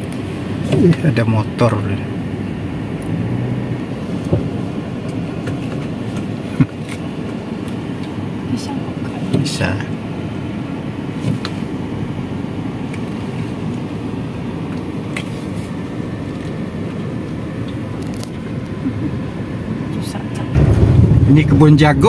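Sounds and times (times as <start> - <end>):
car road noise: 0.0 - 22.0.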